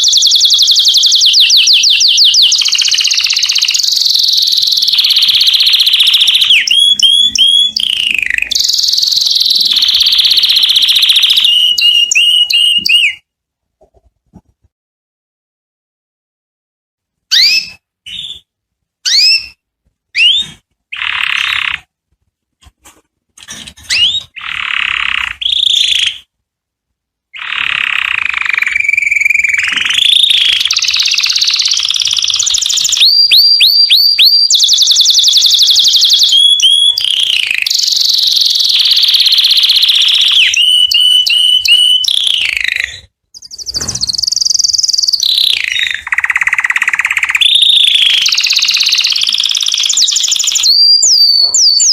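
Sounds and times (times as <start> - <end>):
canary singing: 0.0 - 13.3, 17.3 - 21.9, 23.4 - 26.3, 27.3 - 51.9.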